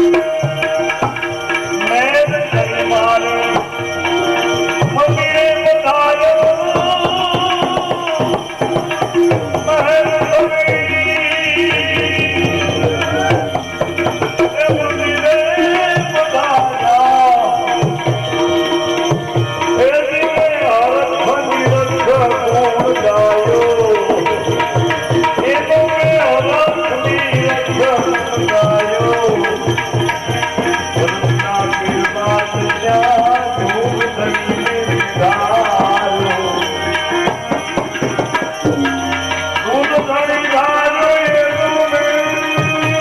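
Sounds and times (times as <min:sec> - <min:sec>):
tabla playing a steady beat: 0:00.0 - 0:43.0.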